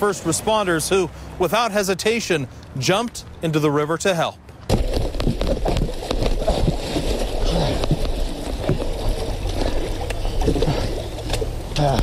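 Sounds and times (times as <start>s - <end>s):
river water rushing and sloshing: 0.0s - 12.0s.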